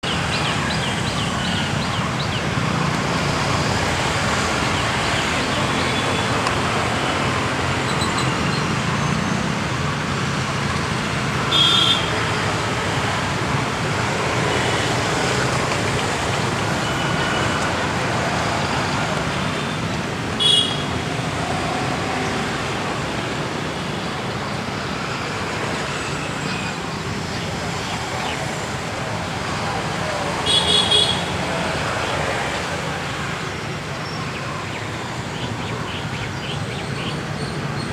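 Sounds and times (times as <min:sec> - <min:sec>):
road traffic noise: 0:00.0 - 0:37.9.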